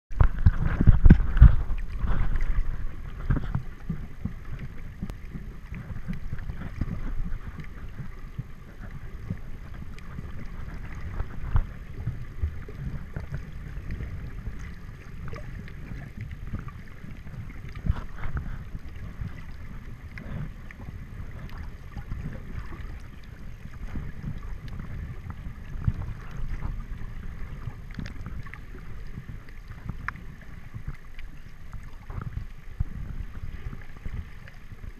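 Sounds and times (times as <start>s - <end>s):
muffled underwater rumble: 0.1s - 34.9s.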